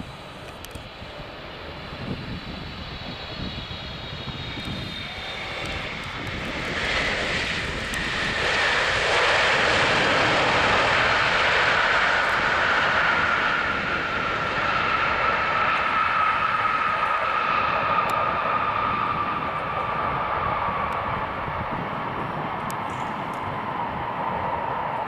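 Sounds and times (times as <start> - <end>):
jet engines with high fan whine: 0.0 - 25.0.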